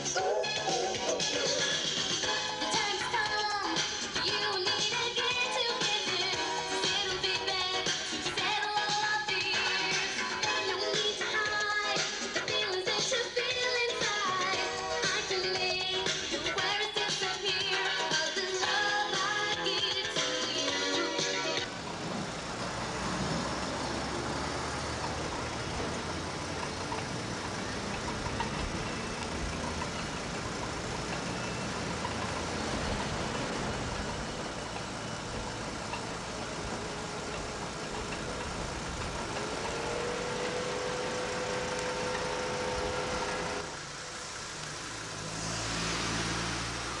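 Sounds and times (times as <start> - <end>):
cars driving by: 0.0 - 47.0.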